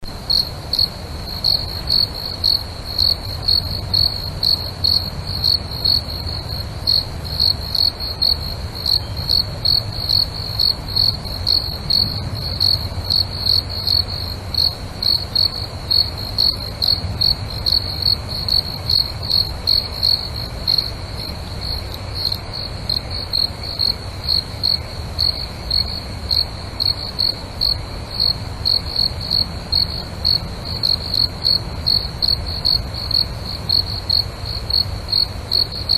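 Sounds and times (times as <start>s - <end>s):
cricket chirping: 0.0s - 35.9s.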